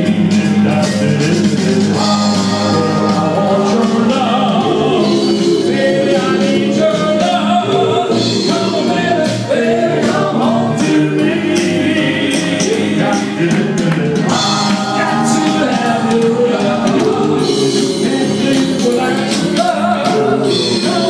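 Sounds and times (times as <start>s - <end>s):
instrumental backing: 0.0s - 21.0s
vocal group singing in harmony: 0.0s - 21.0s.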